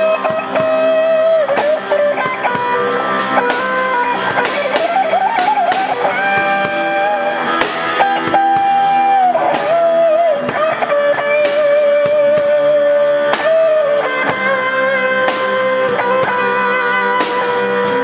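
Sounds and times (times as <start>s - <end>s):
backing guitars: 0.0s - 18.0s
drum kit cymbals: 0.0s - 18.0s
electric lead guitar: 0.0s - 18.0s.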